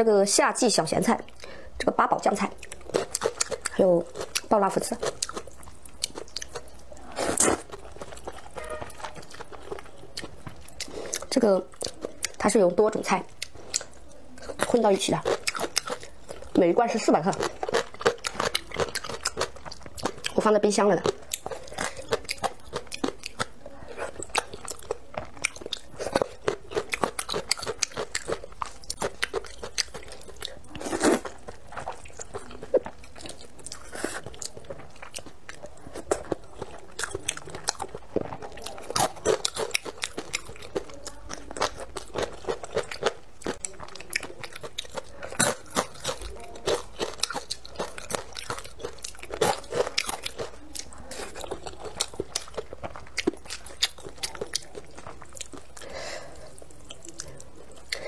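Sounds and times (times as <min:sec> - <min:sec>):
noodles slurped and chewed: 0:00.9 - 0:58.0.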